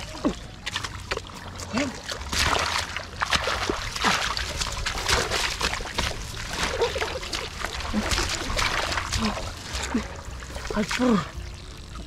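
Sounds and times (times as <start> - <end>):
hands squelching in wet mud: 0.0 - 11.7
muddy water splashing: 0.0 - 12.0.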